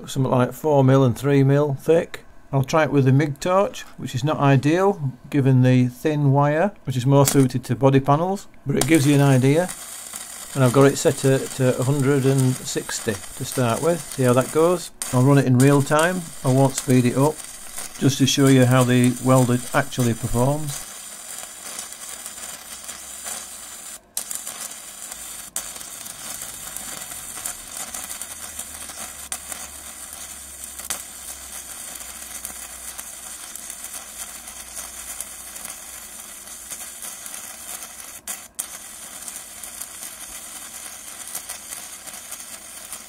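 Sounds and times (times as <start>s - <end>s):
welding arc hiss and crackle: 6.9s - 43.0s.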